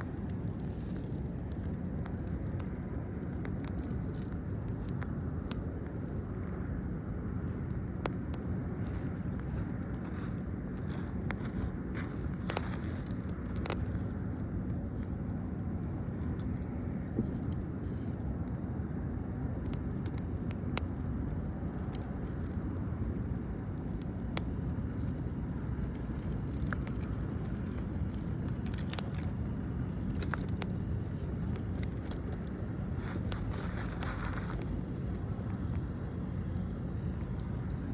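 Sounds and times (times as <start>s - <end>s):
campfire crackling: 0.0s - 37.9s
fire popping and snapping: 0.0s - 37.9s.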